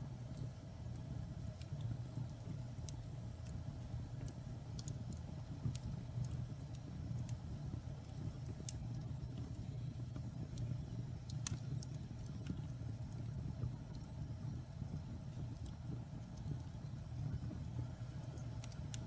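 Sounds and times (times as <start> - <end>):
burning logs crackling and popping: 0.0 - 19.0
low rumble of flames: 0.0 - 19.0.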